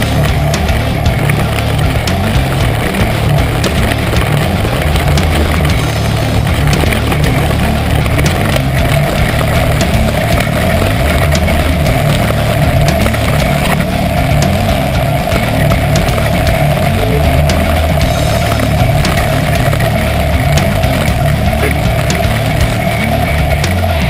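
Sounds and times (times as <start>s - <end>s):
bike rattling over rocks: 0.0s - 24.0s
loud low rumble: 0.0s - 24.0s.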